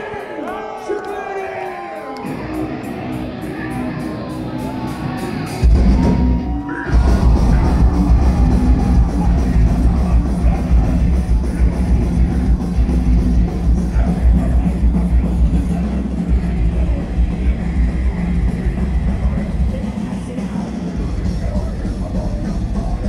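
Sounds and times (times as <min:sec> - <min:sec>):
metal band playing live: 0:00.0 - 0:23.0.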